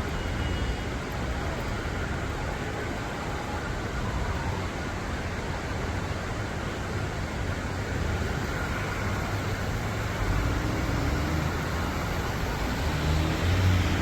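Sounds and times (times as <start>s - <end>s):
floodwater rushing down a street: 0.0s - 14.0s.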